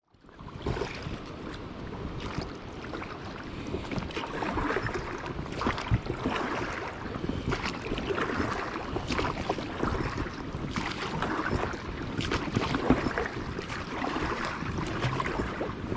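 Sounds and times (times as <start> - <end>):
water splashing around boat: 0.0 - 15.9.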